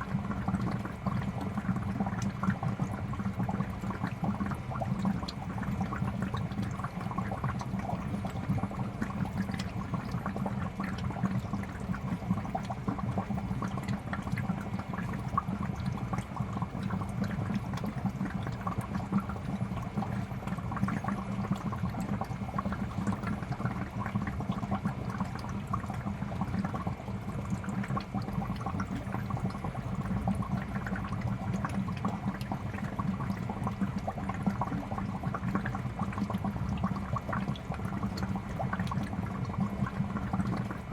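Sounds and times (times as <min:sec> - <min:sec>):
aquarium air bubbling: 0:00.0 - 0:40.9.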